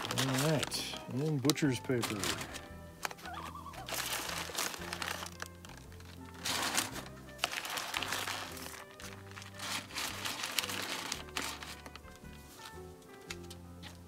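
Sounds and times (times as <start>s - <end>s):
stiff paper crinkling: 0.0s - 14.0s.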